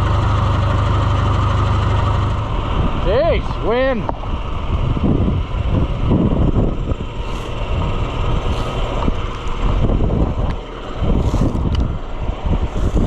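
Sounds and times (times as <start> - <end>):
engine running: 0.0 - 13.0
wind buffeting microphone: 2.3 - 13.0.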